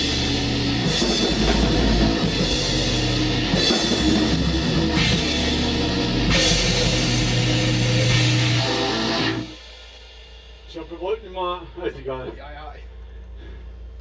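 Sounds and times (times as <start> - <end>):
metal band playing loud: 0.0 - 11.2.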